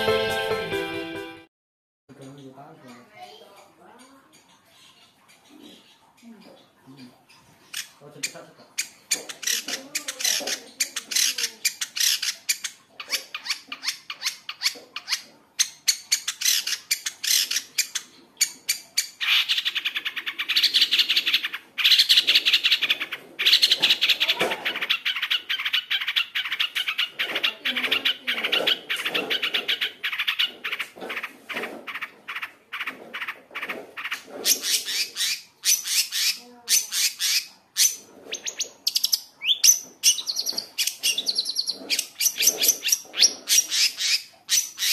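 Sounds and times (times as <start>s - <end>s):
bird chattering song: 2.1s - 44.9s.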